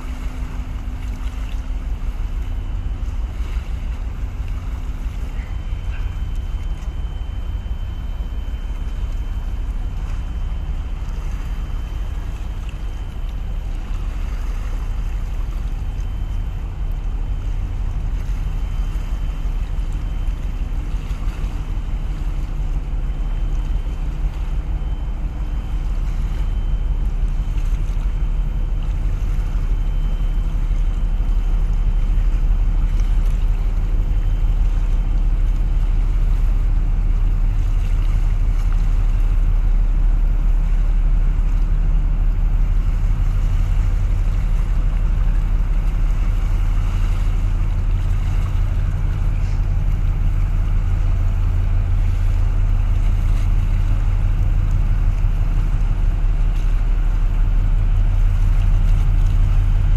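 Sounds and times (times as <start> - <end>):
ship engine rumble: 0.0 - 59.9.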